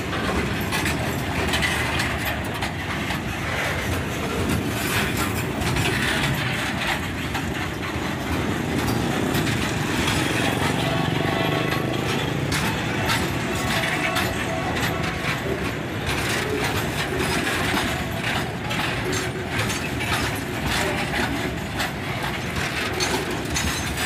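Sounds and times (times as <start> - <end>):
train knocks: 0.0 - 24.0
train wheels rumbling on rails: 0.0 - 24.0.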